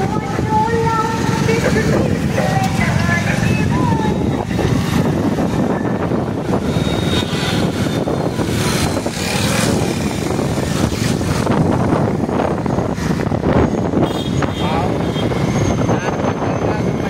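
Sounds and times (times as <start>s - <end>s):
motorcycle engine hum: 0.0s - 17.0s
road noise: 0.0s - 17.0s
rushing wind: 0.0s - 17.0s.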